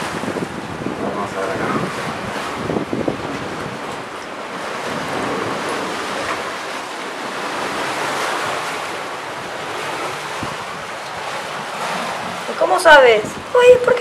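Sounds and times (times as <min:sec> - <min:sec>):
rushing wind: 0:00.0 - 0:14.0.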